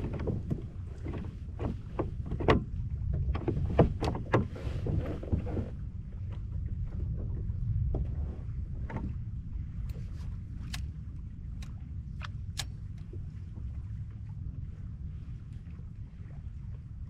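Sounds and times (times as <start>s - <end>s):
water slapping a kayak: 0.0s - 17.0s
wind rumble on microphone: 0.0s - 17.0s.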